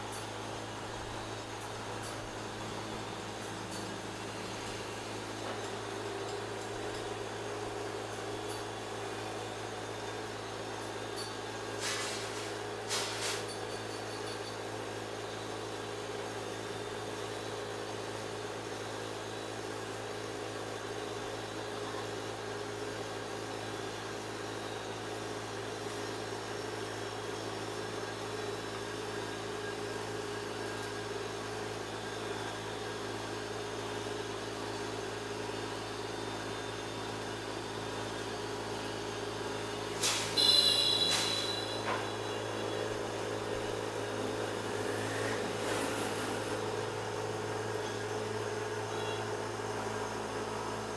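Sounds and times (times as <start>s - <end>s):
steady mechanical hum: 0.0s - 50.9s.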